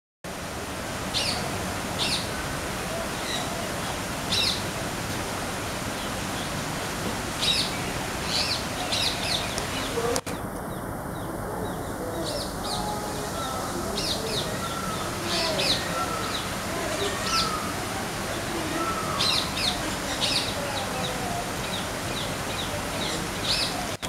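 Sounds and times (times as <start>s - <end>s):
steady background hiss: 0.3s - 24.0s.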